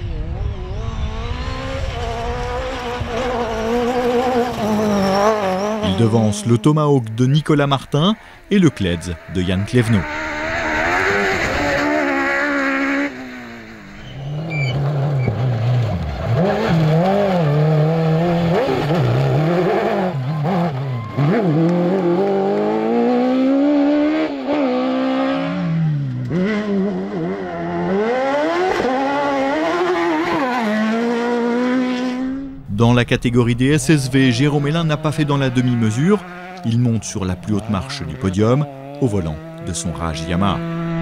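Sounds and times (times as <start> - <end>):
buggy engines revving: 0.0 - 41.0.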